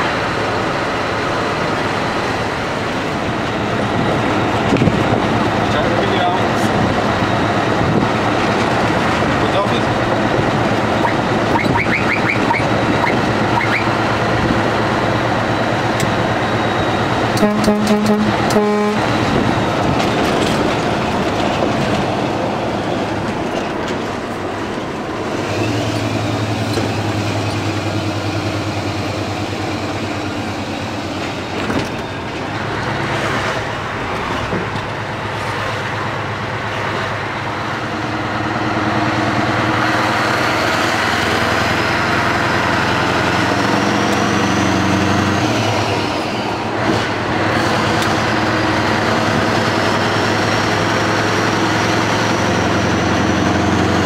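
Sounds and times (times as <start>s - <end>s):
road noise: 0.0s - 54.0s
truck engine drone: 0.0s - 54.0s.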